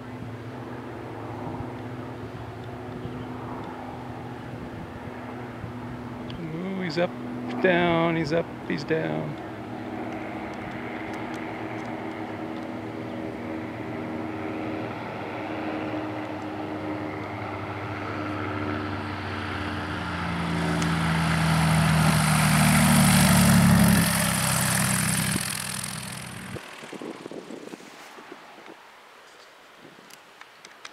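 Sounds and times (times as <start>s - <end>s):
propeller airplane engine drone: 0.0s - 28.6s.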